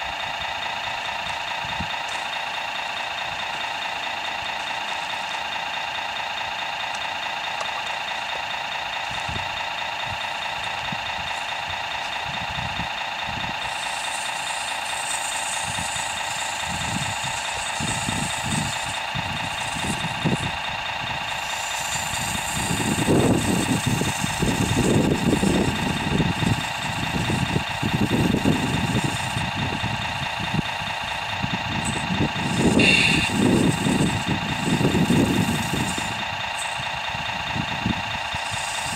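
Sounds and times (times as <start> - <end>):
low rumbles: 0.0 - 13.8, 15.6 - 38.4
simulated diesel engine idling: 0.0 - 38.9.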